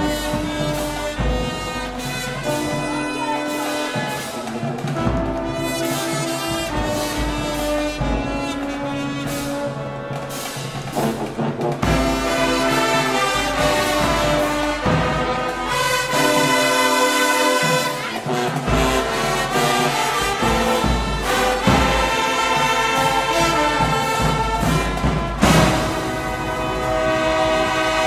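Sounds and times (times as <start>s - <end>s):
brass band playing chords: 0.0s - 28.0s.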